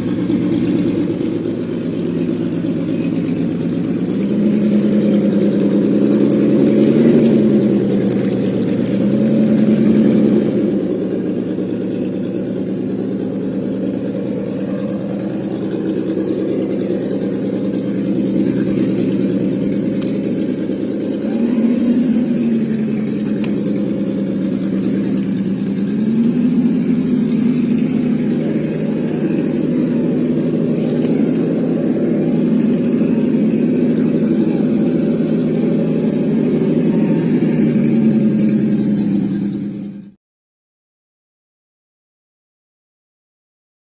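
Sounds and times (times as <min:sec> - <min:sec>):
simulated engine sound from speaker: 0:00.0 - 0:40.2.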